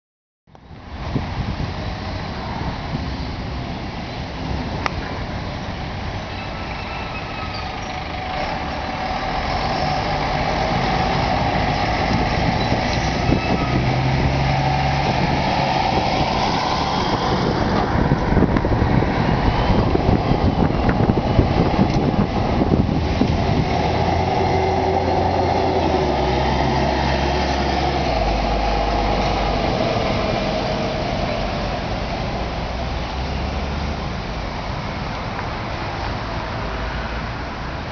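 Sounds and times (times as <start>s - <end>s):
bus diesel engines driving past: 0.6s - 37.9s.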